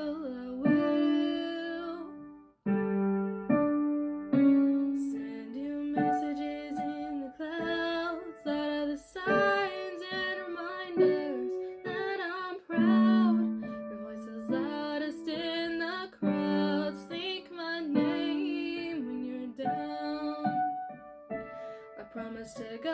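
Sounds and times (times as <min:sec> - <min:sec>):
woman singing: 0:00.0 - 0:02.5, 0:04.3 - 0:22.9
piano accompaniment: 0:00.0 - 0:22.9.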